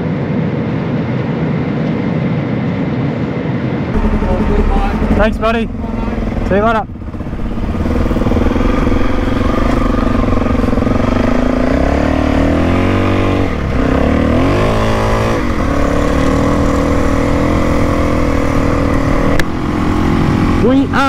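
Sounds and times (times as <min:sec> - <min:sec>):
motorcycle engine revving: 0:04.0 - 0:21.0.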